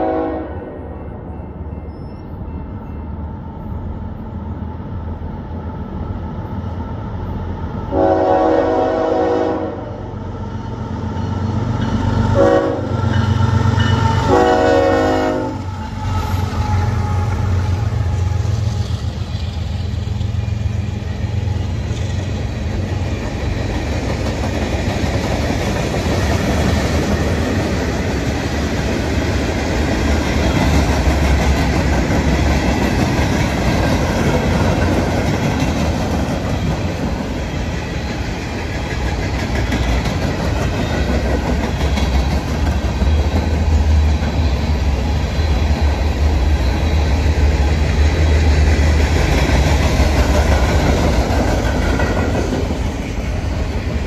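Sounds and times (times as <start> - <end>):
train rumbling by: 0.0 - 54.0.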